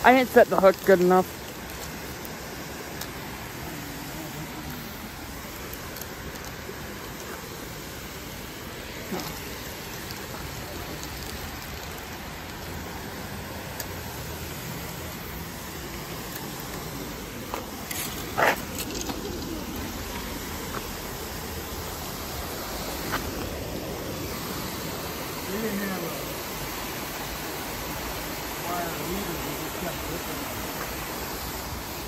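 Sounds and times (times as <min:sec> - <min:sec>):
water pouring over a spillway: 0:01.3 - 0:32.0.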